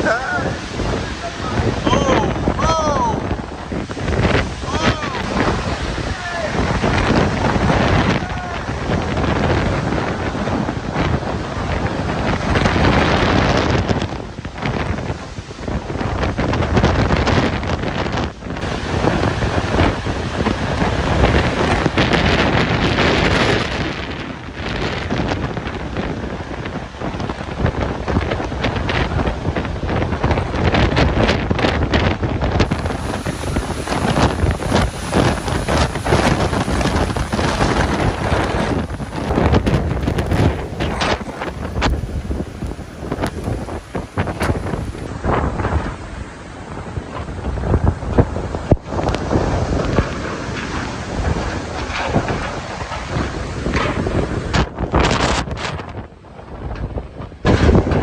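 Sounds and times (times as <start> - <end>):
driving rain: 0.0 - 58.0
wind gusting on microphone: 0.0 - 58.0.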